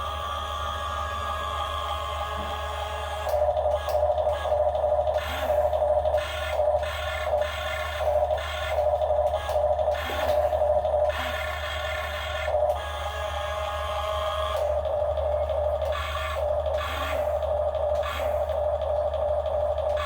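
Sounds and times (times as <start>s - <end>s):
hydraulic pump motor whining: 0.0s - 20.0s.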